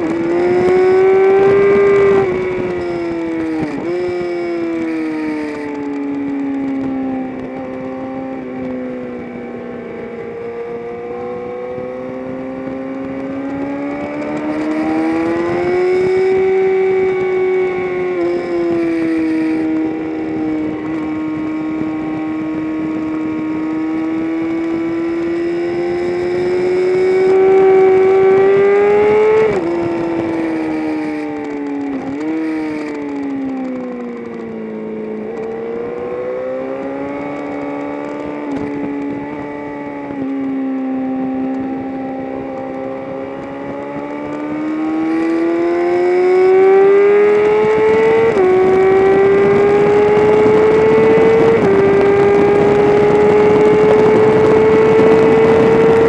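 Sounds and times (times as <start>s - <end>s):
racing engine accelerating: 0.0s - 56.0s.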